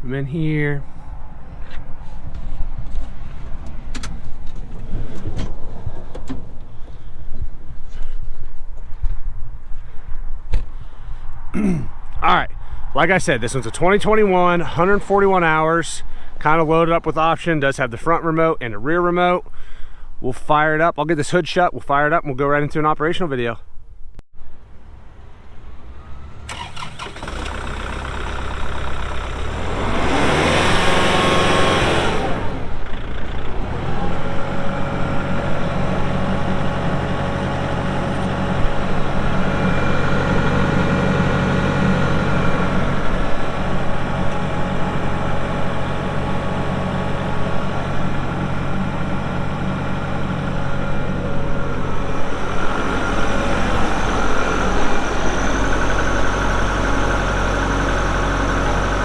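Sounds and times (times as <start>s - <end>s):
tractor diesel engine starting: 0.0s - 8.2s, 13.0s - 17.8s, 24.6s - 59.0s.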